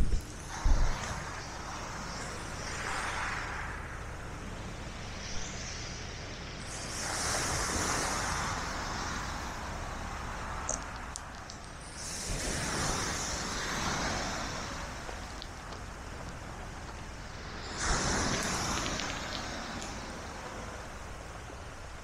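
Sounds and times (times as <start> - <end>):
sea waves washing onto shore: 0.0 - 22.0
wind rumble on microphone: 0.0 - 22.0.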